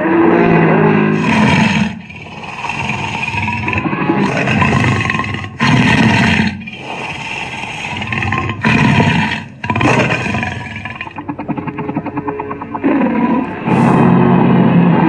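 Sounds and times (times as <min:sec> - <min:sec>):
monster roars: 0:00.0 - 0:11.9, 0:12.8 - 0:15.0.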